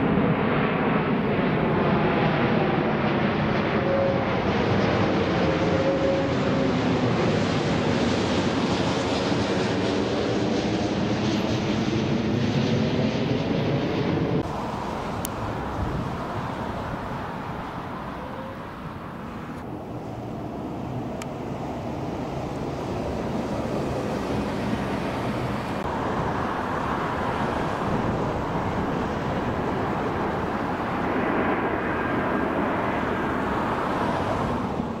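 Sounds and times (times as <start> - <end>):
road traffic noise: 0.0 - 12.4, 13.0 - 35.0.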